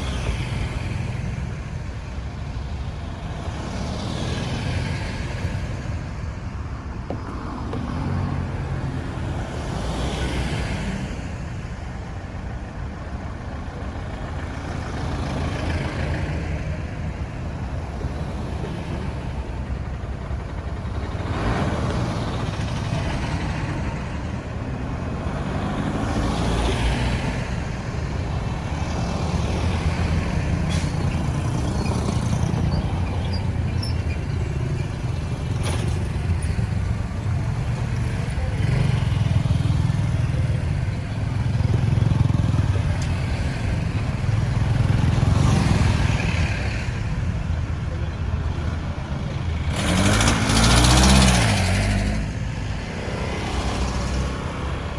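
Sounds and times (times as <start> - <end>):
road traffic rumble and tyre hiss: 0.0 - 54.9
vehicles passing by: 0.0 - 54.9.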